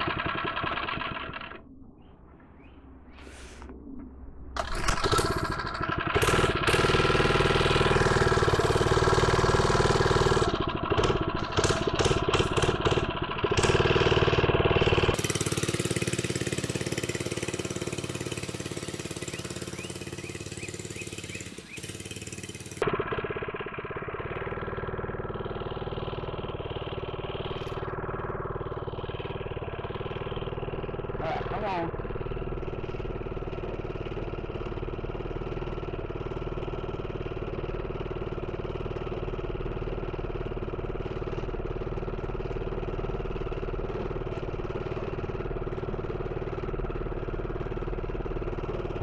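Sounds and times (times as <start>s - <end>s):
mini bike engine running: 0.0s - 1.6s, 4.6s - 49.0s.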